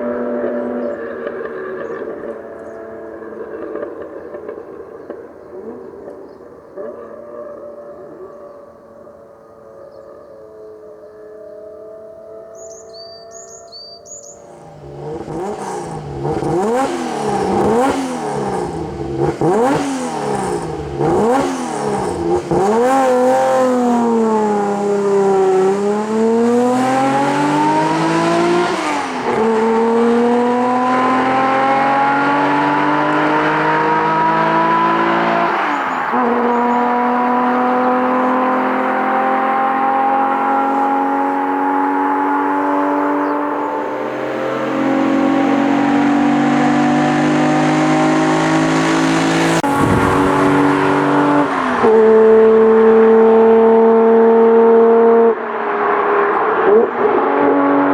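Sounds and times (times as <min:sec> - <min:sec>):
car engine revving and accelerating: 0:00.0 - 0:08.5, 0:14.3 - 0:57.9.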